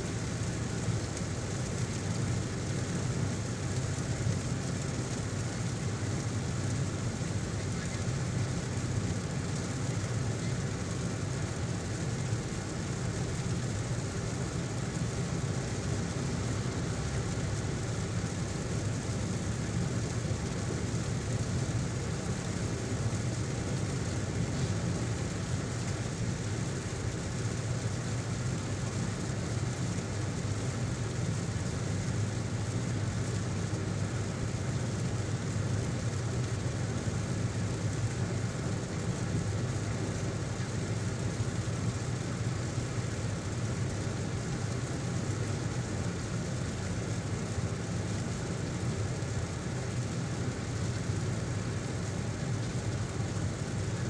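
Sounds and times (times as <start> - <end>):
rain hissing on wet tyres: 0.0 - 54.0.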